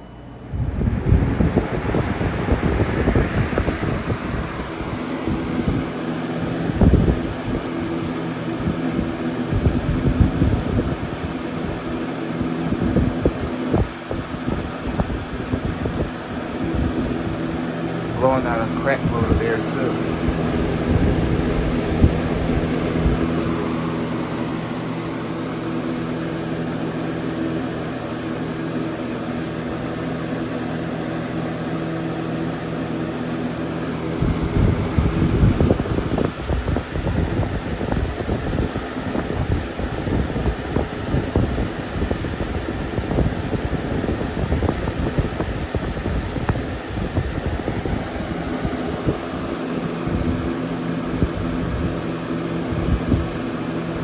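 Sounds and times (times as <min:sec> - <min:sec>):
box fan motor hum: 0:00.0 - 0:54.0
rush of air from fan: 0:00.0 - 0:54.0
wind buffeting microphone: 0:00.5 - 0:26.7, 0:33.8 - 0:54.0.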